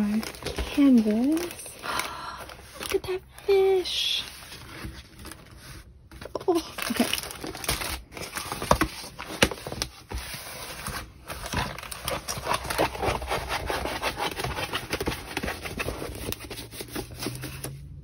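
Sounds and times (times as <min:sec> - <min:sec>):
plastic film rustling and crinkling: 0:00.0 - 0:18.0.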